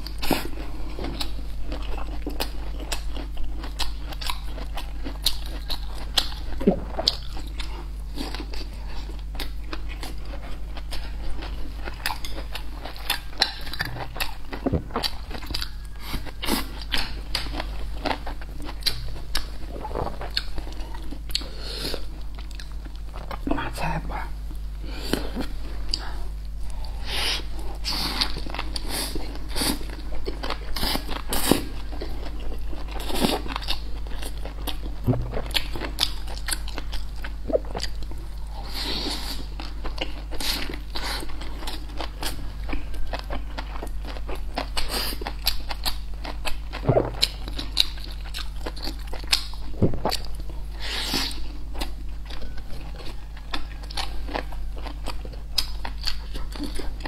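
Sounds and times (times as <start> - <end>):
wet chewing: 0.0 - 23.4, 25.1 - 57.0
crunching fried food: 0.0 - 23.5, 25.0 - 57.0.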